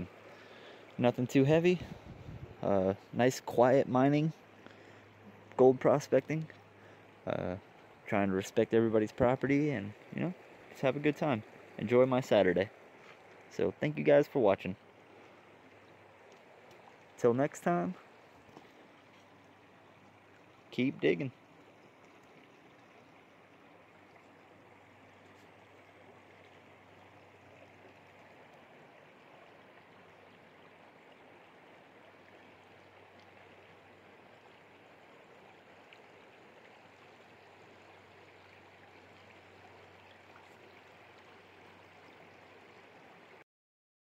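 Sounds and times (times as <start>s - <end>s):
river running over rocks: 0.0s - 43.4s.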